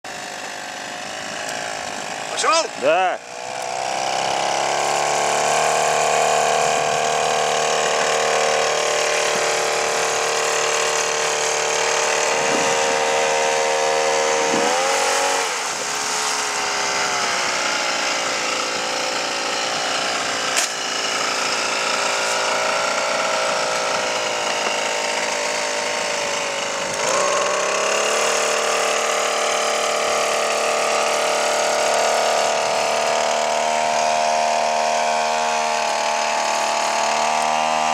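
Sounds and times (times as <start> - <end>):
two-stroke engine at high revs: 0.0 - 37.9.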